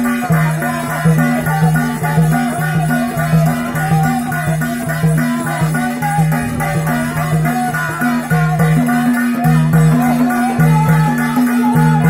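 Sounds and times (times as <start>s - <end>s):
folk dance music: 0.0s - 12.0s.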